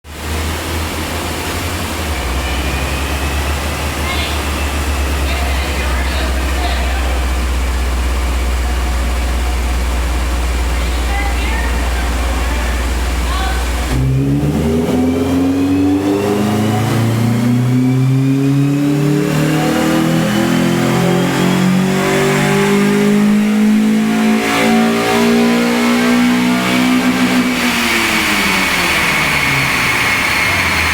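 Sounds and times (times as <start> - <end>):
car engine at full throttle: 0.0 - 30.9
high drivetrain whine: 0.0 - 30.9.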